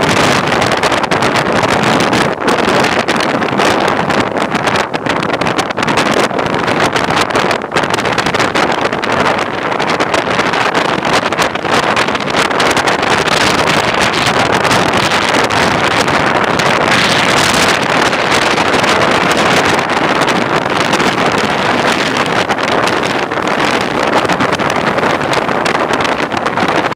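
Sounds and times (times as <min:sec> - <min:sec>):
heavy surf: 0:00.0 - 0:26.9
wind blasting microphone: 0:00.0 - 0:26.9.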